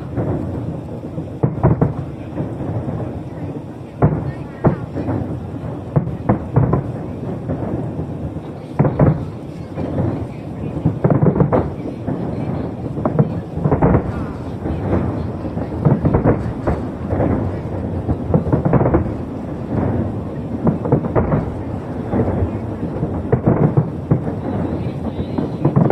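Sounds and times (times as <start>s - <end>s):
fireworks booming: 0.0s - 25.9s.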